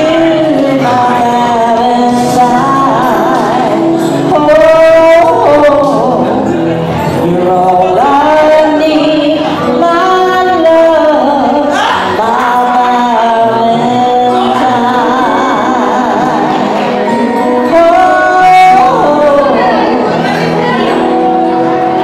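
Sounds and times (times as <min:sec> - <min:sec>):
backing track over loudspeakers: 0:00.0 - 0:22.0
woman singing karaoke: 0:00.0 - 0:22.0.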